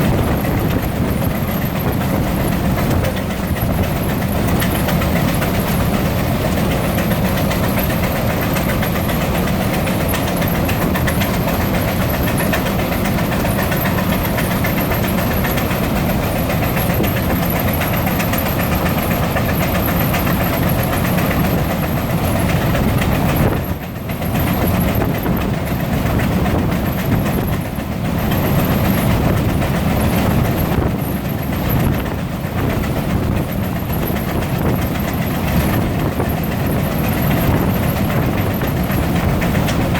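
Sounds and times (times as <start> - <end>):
steam engines and belted machinery: 0.0 - 39.9.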